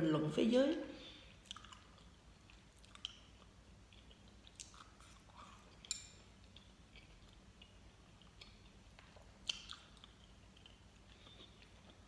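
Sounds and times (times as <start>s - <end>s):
chewing gummy candy: 1.4s - 12.0s.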